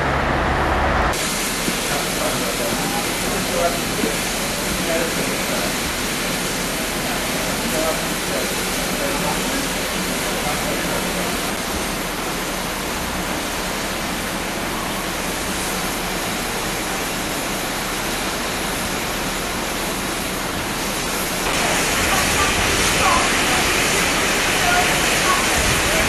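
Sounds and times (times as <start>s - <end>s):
steam hissing from locomotive: 1.1s - 26.0s.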